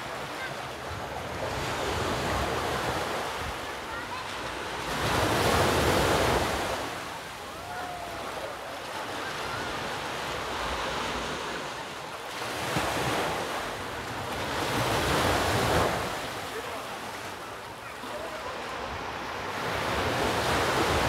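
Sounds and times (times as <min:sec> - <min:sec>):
sea surf washing on shore: 0:00.0 - 0:21.0.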